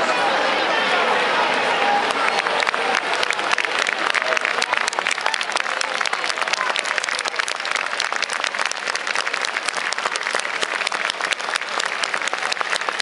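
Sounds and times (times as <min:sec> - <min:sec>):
crowd voices: 0:00.0 - 0:13.0
crowd applauding: 0:01.8 - 0:13.0.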